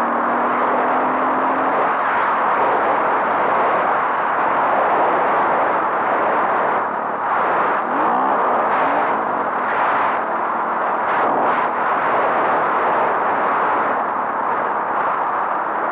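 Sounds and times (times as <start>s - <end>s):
dirt bike engine: 0.0s - 15.4s
wind rush on microphone: 0.0s - 15.9s.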